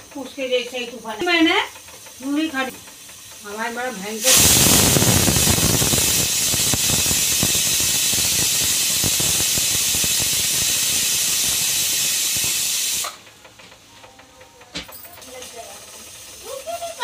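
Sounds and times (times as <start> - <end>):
pressure cooker steam hiss: 0.0 - 13.6, 14.9 - 17.0.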